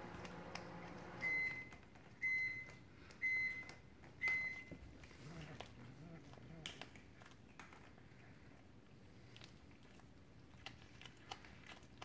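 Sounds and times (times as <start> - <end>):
low appliance hum: 0.0 - 12.0.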